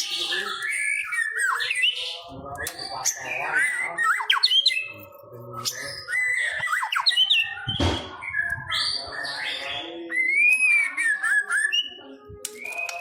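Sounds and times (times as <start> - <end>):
bird singing whistled phrases: 0.0 - 4.9, 5.6 - 13.0
scratchy bird chatter: 0.0 - 13.0.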